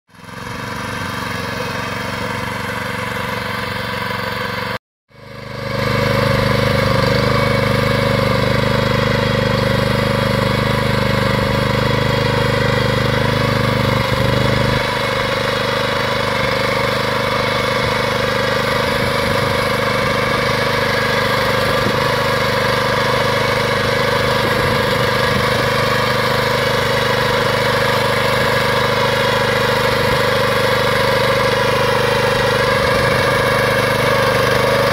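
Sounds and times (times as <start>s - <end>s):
small petrol engine under load: 0.1s - 34.9s.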